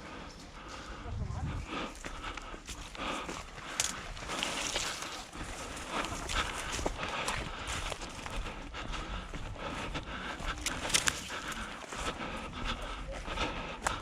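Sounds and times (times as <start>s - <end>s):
footsteps: 0.0s - 14.0s
person breathing hard: 0.0s - 14.0s.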